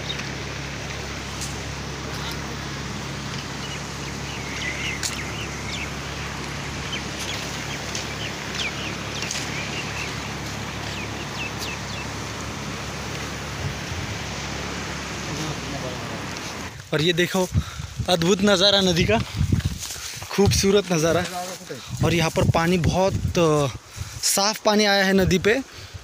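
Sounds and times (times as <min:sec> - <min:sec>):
birds chirping: 0:00.0 - 0:22.9
rushing background noise: 0:00.0 - 0:24.6.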